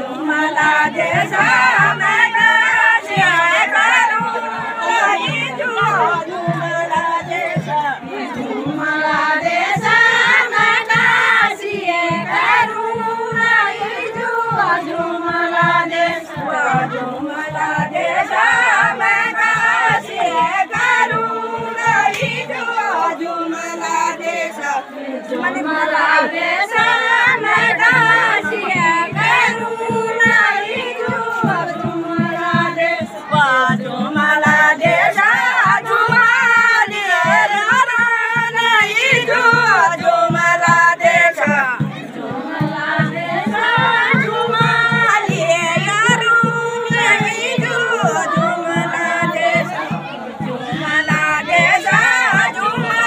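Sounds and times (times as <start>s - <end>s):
women singing folk song in unison: 0.0s - 53.0s.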